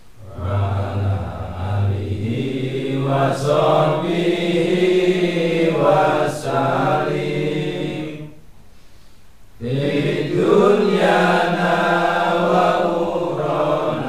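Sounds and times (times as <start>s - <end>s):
men chanting melodic recitation: 0.2s - 8.4s, 9.6s - 14.0s.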